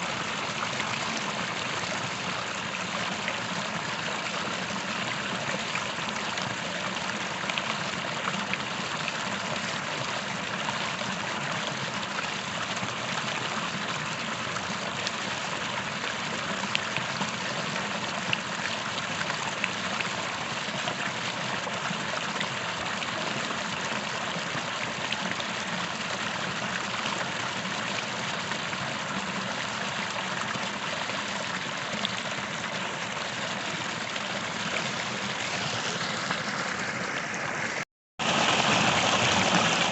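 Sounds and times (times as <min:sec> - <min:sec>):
creek running over rocks: 0:00.0 - 0:39.9.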